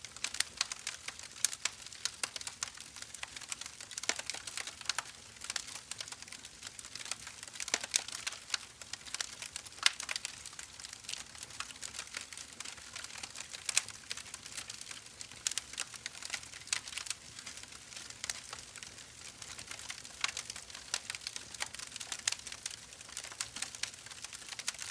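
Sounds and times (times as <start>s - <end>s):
faint steady hiss: 0.0s - 24.9s
wood fire crackling and popping: 0.0s - 24.9s.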